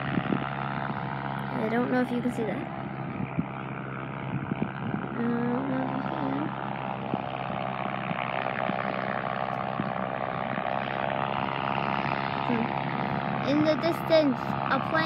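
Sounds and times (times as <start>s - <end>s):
distant aircraft engines droning: 0.0s - 15.0s.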